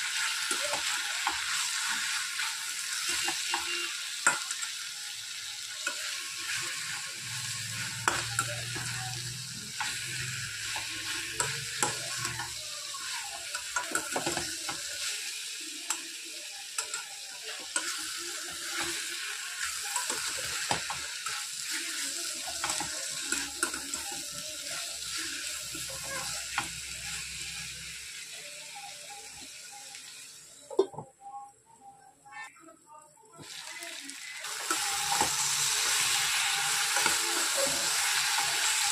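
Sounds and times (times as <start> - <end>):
vegetables sizzling in oil: 0.0 - 30.8, 33.4 - 38.9.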